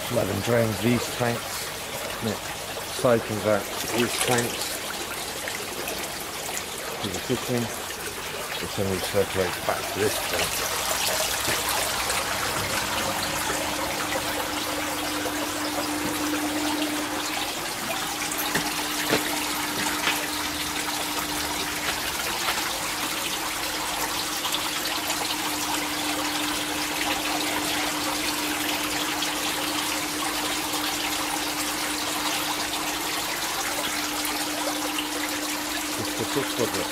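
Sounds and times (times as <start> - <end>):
water splashing into tank: 0.0 - 36.9.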